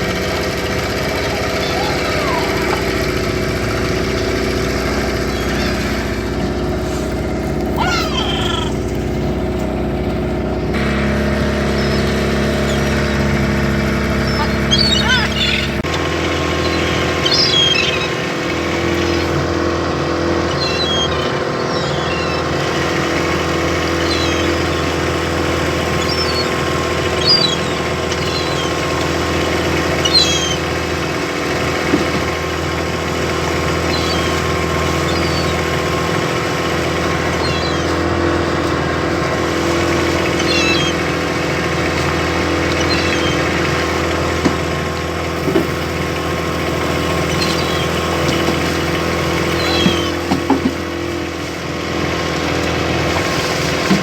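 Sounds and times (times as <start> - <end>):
engine running: 0.0 - 54.0
seagulls calling: 0.0 - 54.0.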